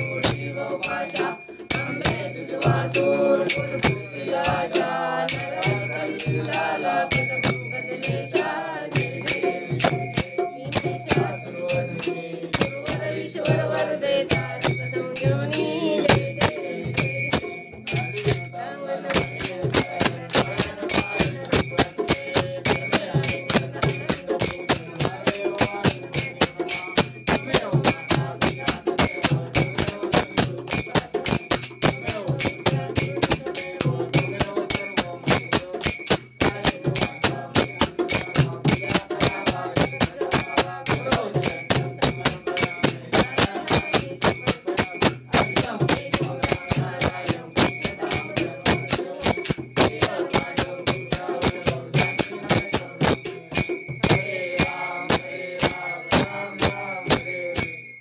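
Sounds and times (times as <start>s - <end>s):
group of voices singing: 0.0s - 58.0s
hand cymbals clashing: 0.0s - 58.0s.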